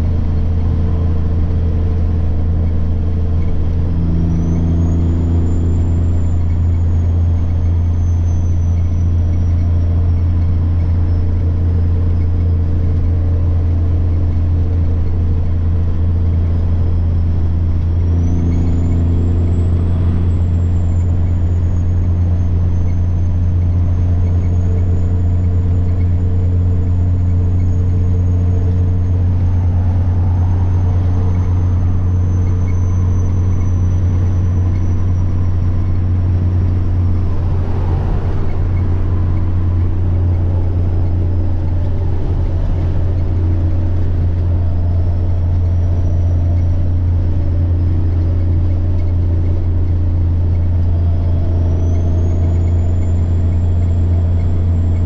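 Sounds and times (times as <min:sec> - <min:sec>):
diesel engine droning: 0:00.0 - 0:55.0
turbocharger whine: 0:00.0 - 0:55.0.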